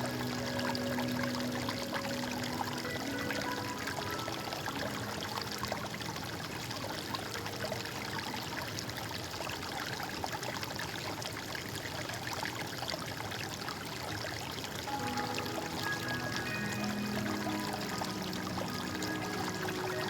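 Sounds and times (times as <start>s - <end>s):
stream flowing over rocks: 0.0s - 20.0s.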